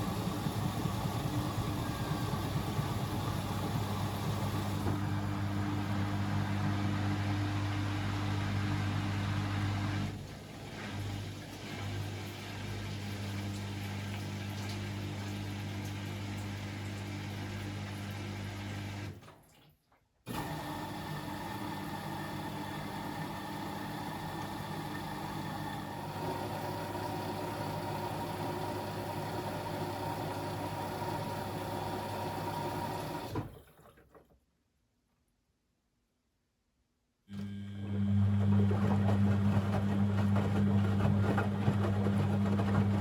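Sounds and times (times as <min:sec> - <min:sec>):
washing machine running: 0:00.0 - 0:19.4, 0:20.3 - 0:34.1, 0:37.3 - 0:43.0.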